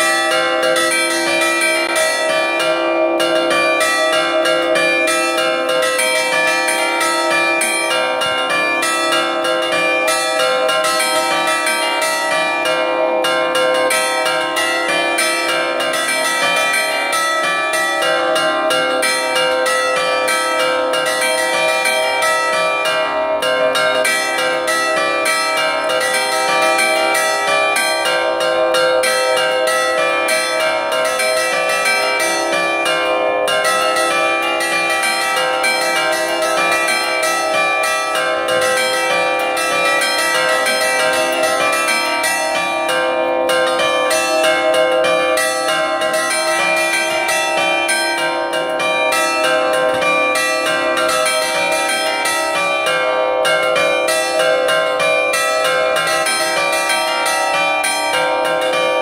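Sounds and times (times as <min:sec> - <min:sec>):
church bells chiming rapidly: 0:00.0 - 0:59.0.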